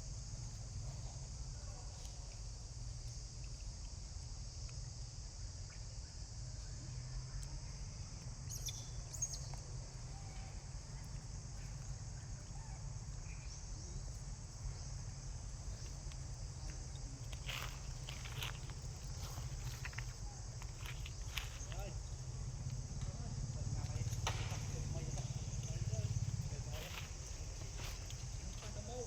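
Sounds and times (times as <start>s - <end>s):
high-pitched insect drone: 4.4s - 29.0s.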